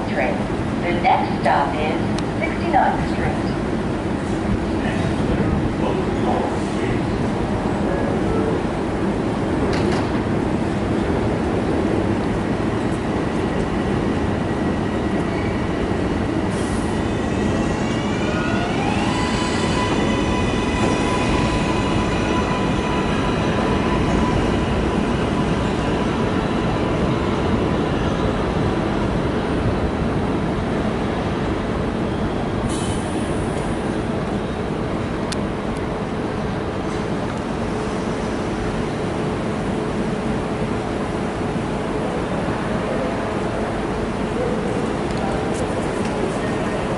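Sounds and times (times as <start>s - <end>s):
subway rail rumble: 0.0s - 46.9s.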